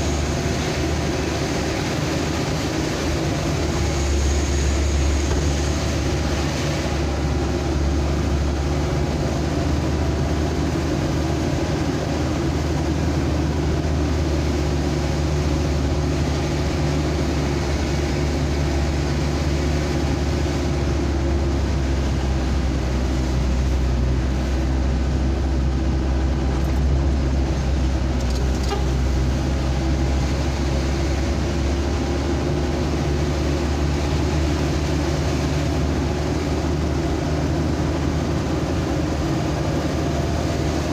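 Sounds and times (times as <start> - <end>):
road noise: 0.0 - 40.9
vehicle engine drone: 0.0 - 40.9.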